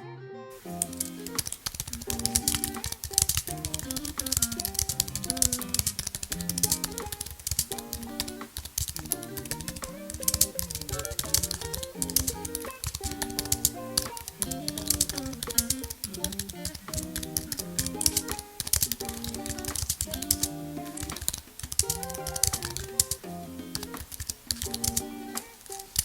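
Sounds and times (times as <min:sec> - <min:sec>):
background music: 0:00.0 - 0:26.0
fast typing on keyboard: 0:00.8 - 0:23.2, 0:23.8 - 0:25.1.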